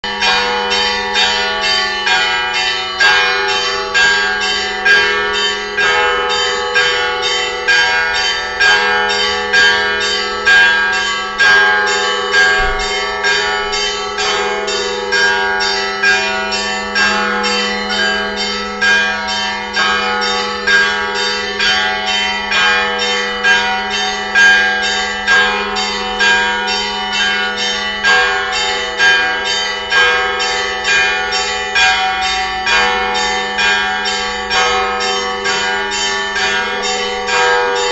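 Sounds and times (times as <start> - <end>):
low bell ringing: 0.0 - 37.9
small bells chiming: 0.1 - 37.9.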